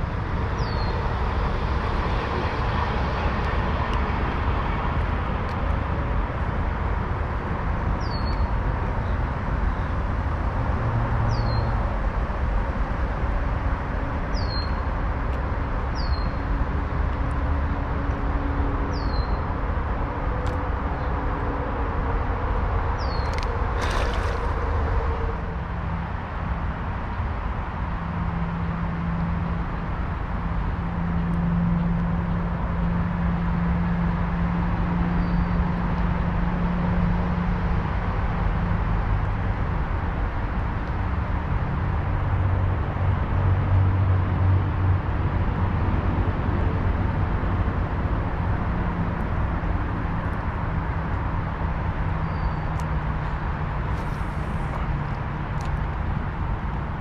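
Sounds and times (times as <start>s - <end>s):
outdoor rumble with low hum: 0.0s - 57.0s.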